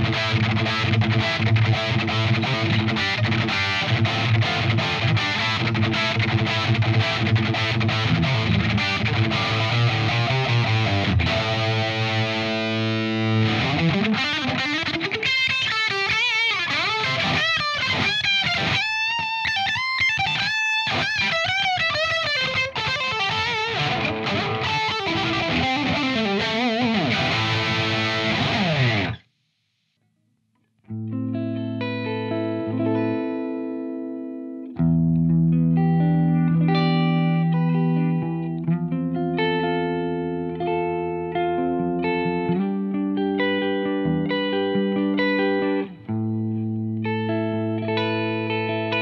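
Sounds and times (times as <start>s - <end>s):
distorted electric guitar lead: 0.0s - 29.2s, 30.8s - 49.0s
electric guitar notes and chords: 0.0s - 29.2s, 30.8s - 49.0s.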